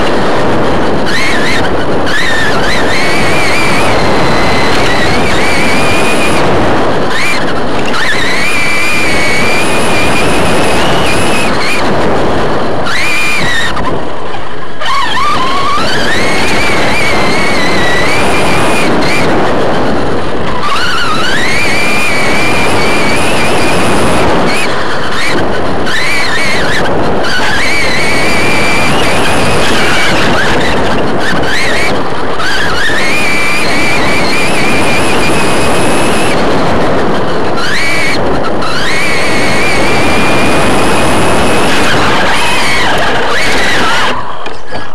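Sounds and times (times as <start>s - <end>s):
chassis and dirt rattle: 0.0s - 44.9s
rc truck motor whine: 0.0s - 44.9s.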